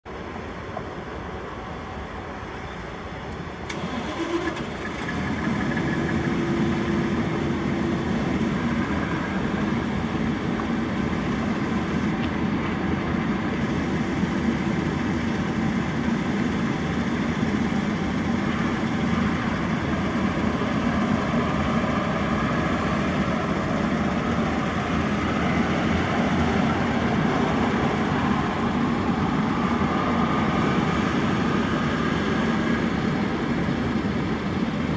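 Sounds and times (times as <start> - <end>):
fire truck engine running: 0.1 - 34.9.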